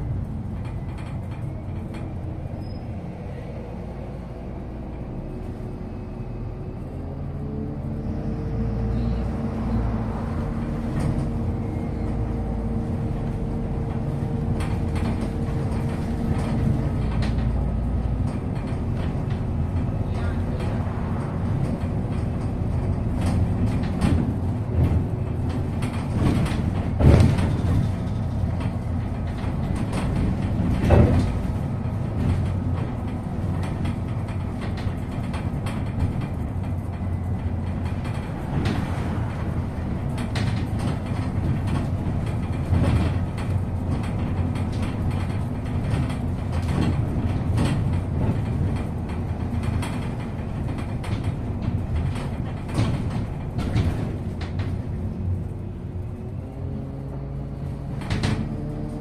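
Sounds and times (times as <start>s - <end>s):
bus body rattling: 0.0s - 59.0s
bus engine and road rumble: 0.0s - 59.0s.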